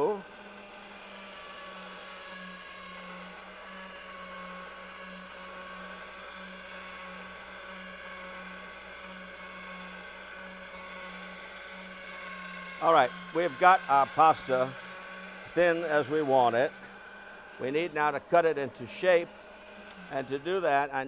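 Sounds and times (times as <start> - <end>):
pasta machine motor humming: 0.0 - 21.0.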